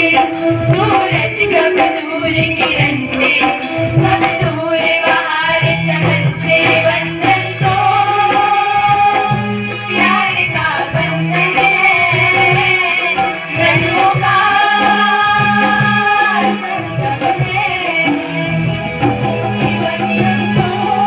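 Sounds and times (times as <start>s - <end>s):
person singing devotional song: 0.0s - 21.0s
tabla-like drum beat: 0.0s - 21.0s.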